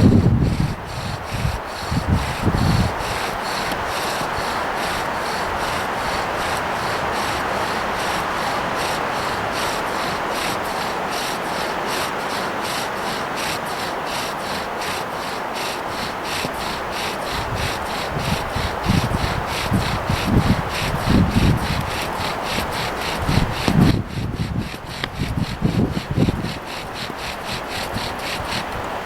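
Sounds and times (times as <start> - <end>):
rhythmic rasping: 0.0 - 29.0.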